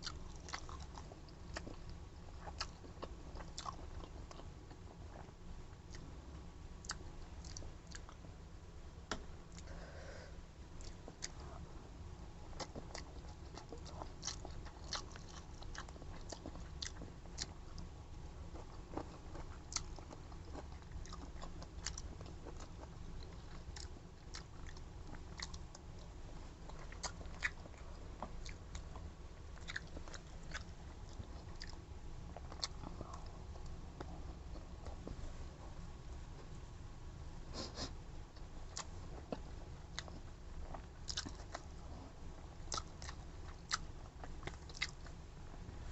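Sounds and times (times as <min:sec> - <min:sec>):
person chewing food: 0:00.0 - 0:06.1, 0:06.8 - 0:08.3, 0:10.8 - 0:11.7, 0:12.4 - 0:35.3, 0:38.4 - 0:45.2.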